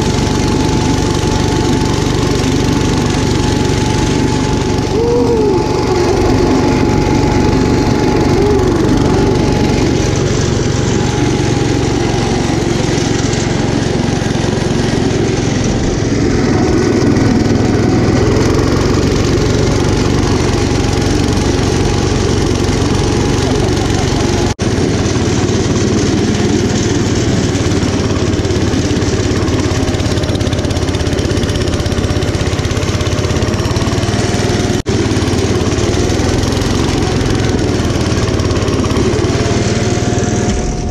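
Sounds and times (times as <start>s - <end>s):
snowblower throwing snow: 0.0s - 40.9s
tractor engine running under load: 0.0s - 40.9s.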